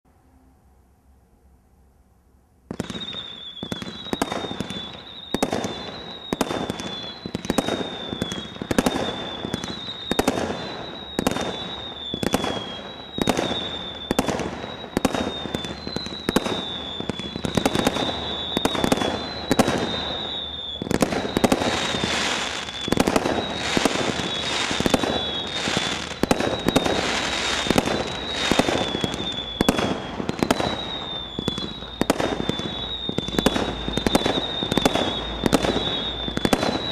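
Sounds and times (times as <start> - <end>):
crackling firework bursts: 2.7 - 36.9
firework bangs: 2.7 - 36.9
whistling firework comets: 2.7 - 36.9.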